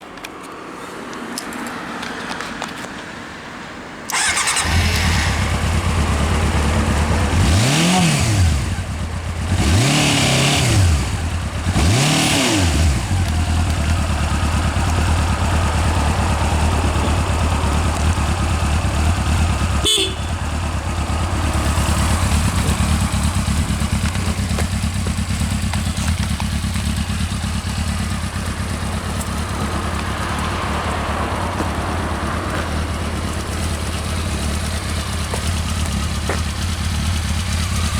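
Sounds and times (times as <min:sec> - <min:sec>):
motorcycle engine revving and idling: 0:04.1 - 0:37.9.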